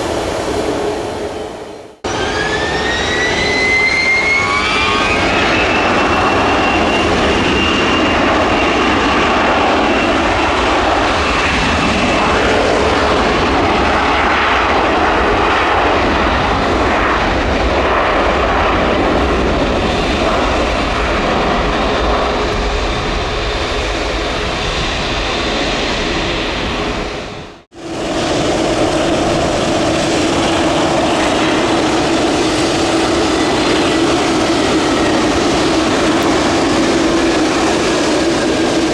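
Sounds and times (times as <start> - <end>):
airliner engine drone on approach: 0.0 - 38.9
jet engines roaring on takeoff: 0.0 - 38.9.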